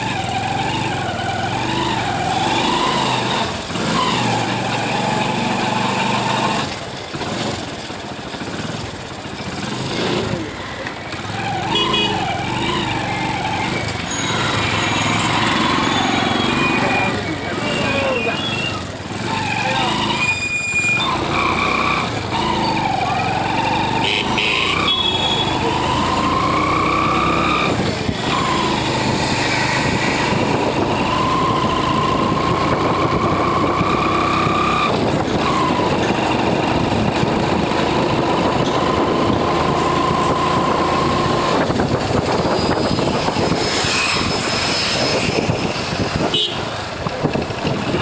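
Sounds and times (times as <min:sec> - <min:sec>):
motorcycle engine whine: 0:00.0 - 0:48.0
road and wind noise: 0:00.0 - 0:48.0.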